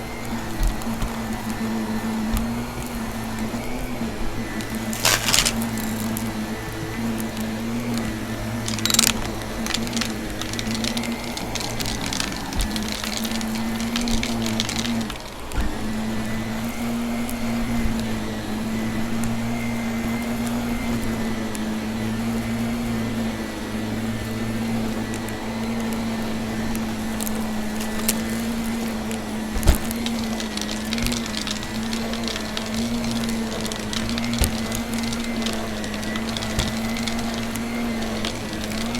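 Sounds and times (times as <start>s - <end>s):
vacuum cleaner running: 0.0s - 38.9s
debris crackling being sucked: 0.1s - 19.1s, 24.5s - 38.9s.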